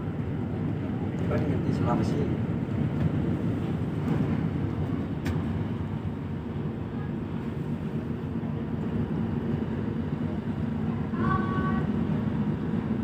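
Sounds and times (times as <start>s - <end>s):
ship engine rumble: 0.0s - 13.0s.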